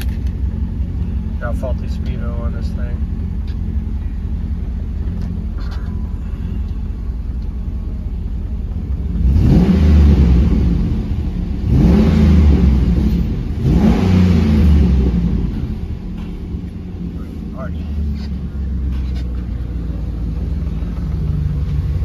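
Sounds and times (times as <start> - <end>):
car engine idling: 0.0 - 22.0
engine revving: 0.0 - 22.0.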